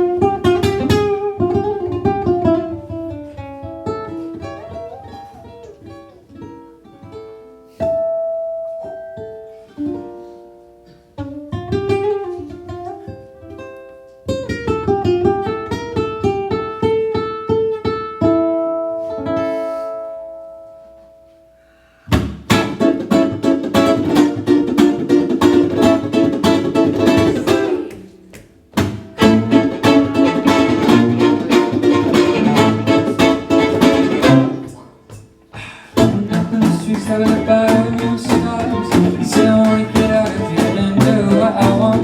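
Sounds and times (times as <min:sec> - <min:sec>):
acoustic string instrument strumming: 0:00.0 - 0:42.0.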